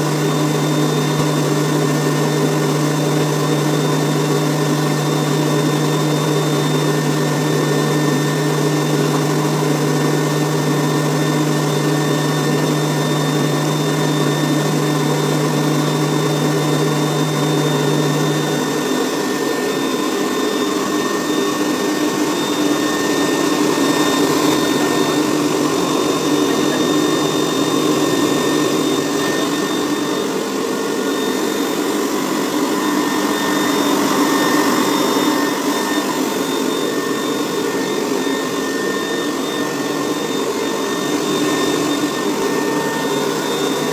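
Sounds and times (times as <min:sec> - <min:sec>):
electric air blower whining: 0:00.0 - 0:43.9.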